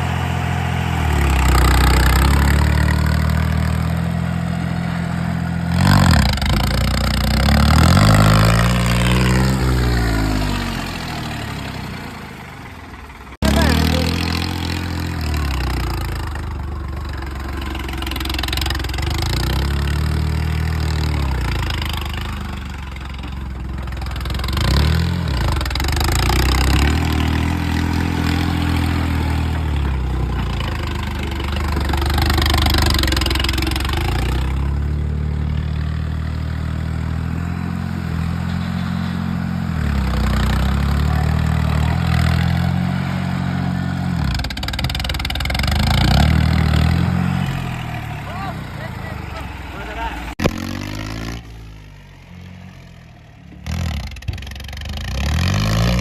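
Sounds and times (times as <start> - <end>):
diesel tractor engine revving: 0.0 - 56.0.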